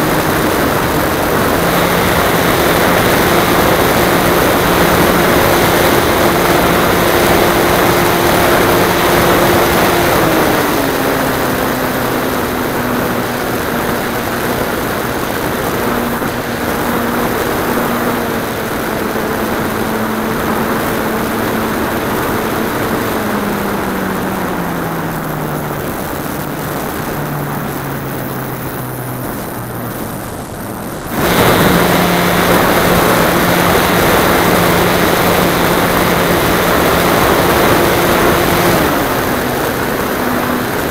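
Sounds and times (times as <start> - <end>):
model aeroplane engine and propeller: 0.0 - 40.9
rushing air: 0.0 - 40.9.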